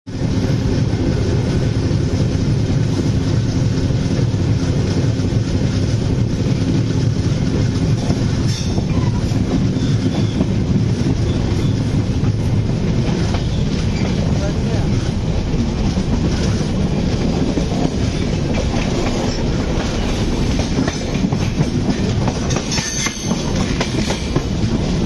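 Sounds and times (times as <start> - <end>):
clacking over the track: 0.1 - 25.0
train wheels rumbling on rails: 0.1 - 25.0
wind rush: 0.1 - 25.0.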